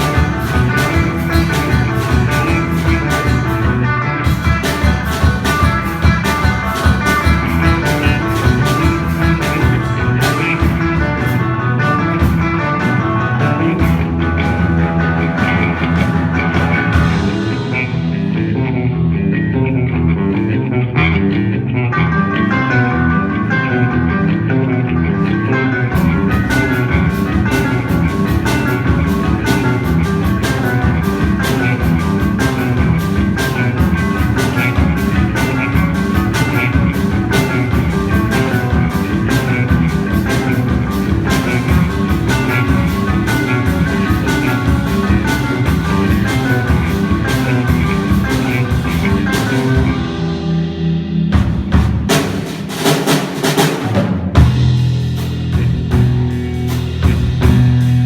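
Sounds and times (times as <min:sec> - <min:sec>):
drum kit: 0:00.0 - 0:19.5, 0:25.7 - 0:58.0
bass guitar: 0:00.0 - 0:58.0
electric guitar: 0:00.0 - 0:58.0.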